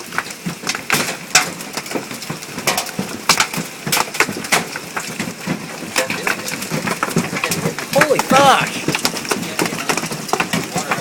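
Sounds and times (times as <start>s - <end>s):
hailstones striking hard surfaces: 0.0s - 11.0s.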